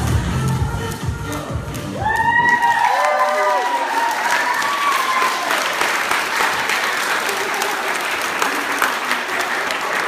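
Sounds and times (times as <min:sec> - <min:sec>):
crowd clapping: 0:01.8 - 0:10.0.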